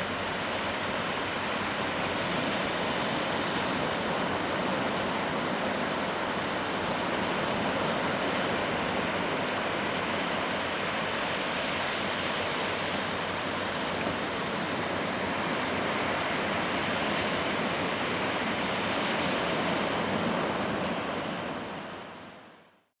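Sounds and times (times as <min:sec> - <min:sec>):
sea waves washing onto beach: 0:00.0 - 0:22.4.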